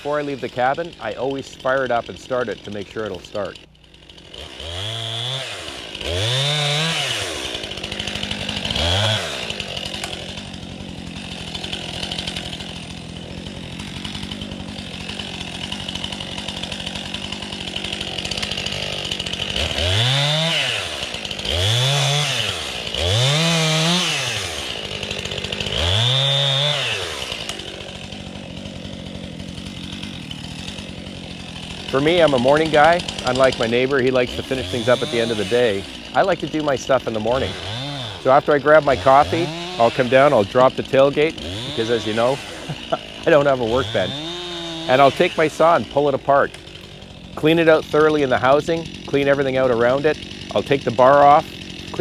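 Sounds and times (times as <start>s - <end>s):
chainsaw idling and revving: 0.0s - 52.0s.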